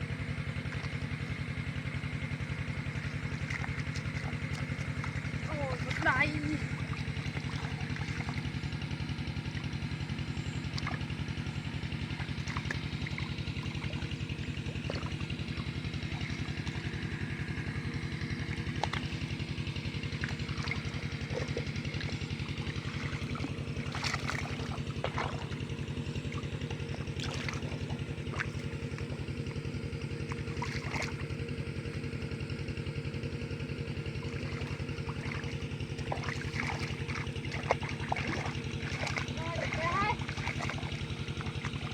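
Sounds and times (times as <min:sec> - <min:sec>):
small engine running: 0:00.0 - 0:41.9
water trickling: 0:02.6 - 0:17.7, 0:18.3 - 0:19.4, 0:20.0 - 0:31.3, 0:34.0 - 0:41.9.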